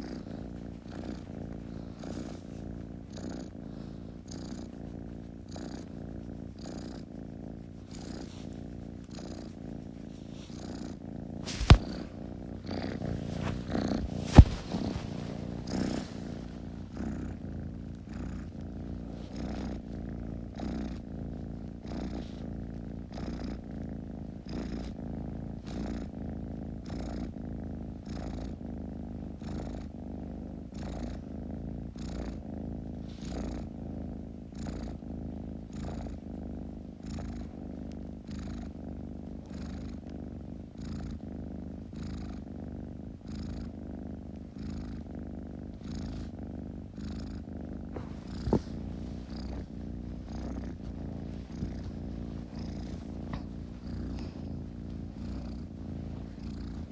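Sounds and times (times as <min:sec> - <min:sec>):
kitten purring: 0:00.0 - 0:56.9.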